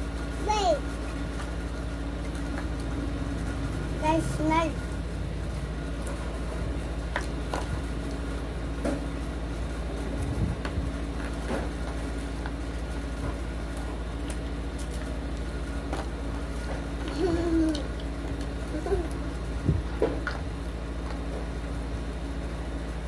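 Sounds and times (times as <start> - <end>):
machinery hum and rumble: 0.0 - 23.0.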